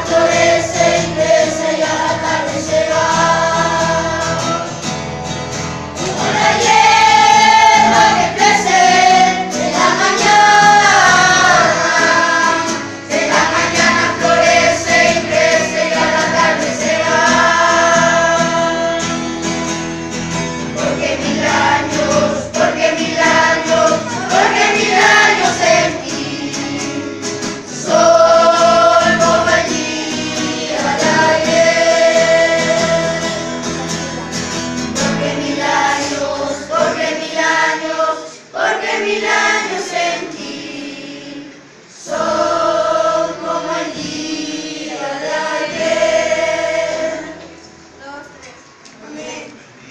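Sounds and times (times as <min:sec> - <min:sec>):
instrumental backing: 0:00.0 - 0:40.6
group singing a hymn: 0:00.0 - 0:48.2.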